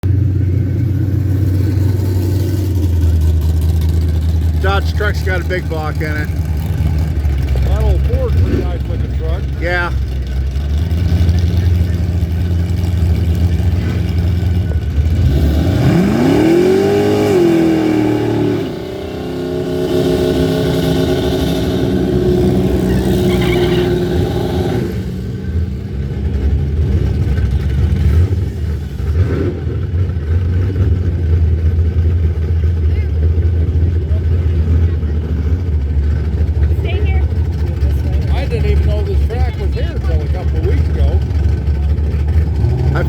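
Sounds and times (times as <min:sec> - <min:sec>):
drag racing engines revving: 0:00.0 - 0:43.0.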